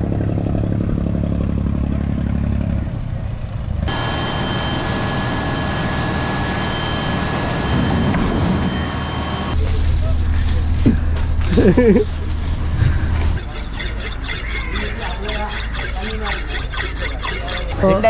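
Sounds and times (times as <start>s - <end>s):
steady high whine: 0.0s - 16.2s
engine running: 0.0s - 18.0s.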